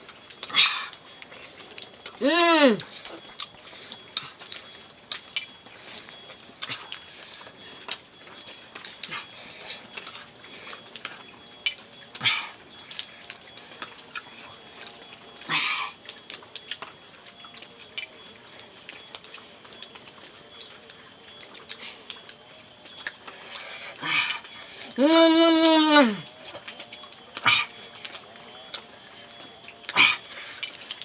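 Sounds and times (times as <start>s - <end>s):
mouth smacking while eating: 0.4s - 31.0s.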